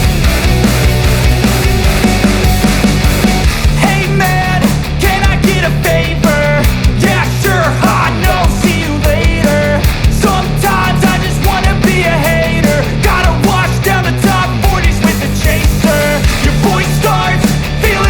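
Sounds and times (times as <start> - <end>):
loud rock music with vocals: 0.0 - 18.0.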